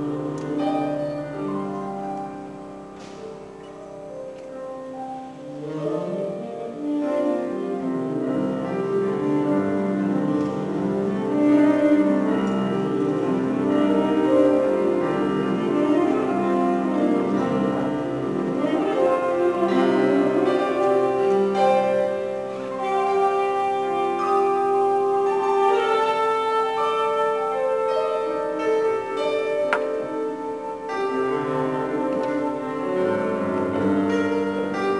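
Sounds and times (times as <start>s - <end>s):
piano and strings chamber music: 0.0s - 34.9s.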